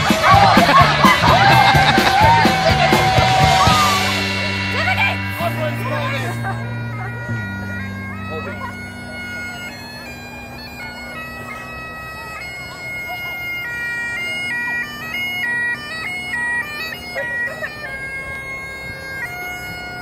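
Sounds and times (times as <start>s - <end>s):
bagpipes playing: 0.0s - 20.0s
faint voices: 0.0s - 20.0s.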